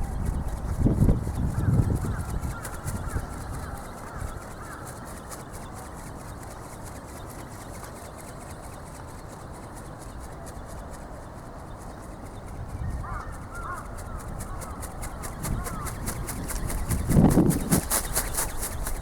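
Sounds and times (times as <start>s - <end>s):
wind buffeting microphone: 0.0s - 9.0s, 9.9s - 19.0s
faint fast ticking: 0.0s - 19.0s.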